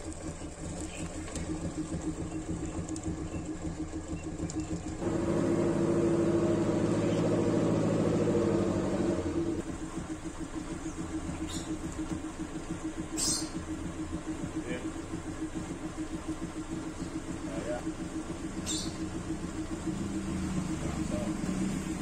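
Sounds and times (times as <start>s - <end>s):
van engine idling and revving: 0.0s - 22.0s.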